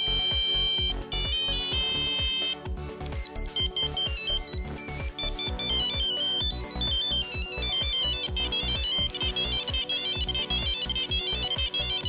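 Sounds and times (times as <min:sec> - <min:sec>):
phone ringtone beeping melody: 0:00.0 - 0:12.0.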